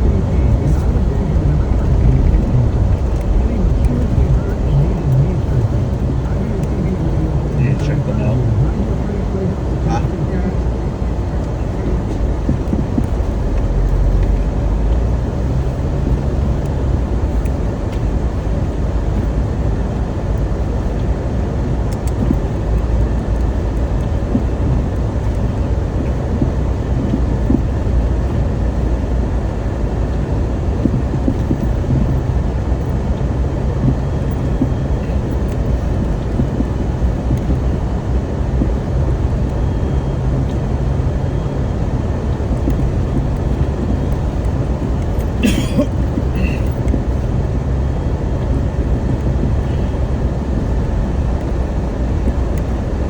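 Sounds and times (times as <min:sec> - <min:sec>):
vehicle engine and road noise: 0:00.0 - 0:53.0.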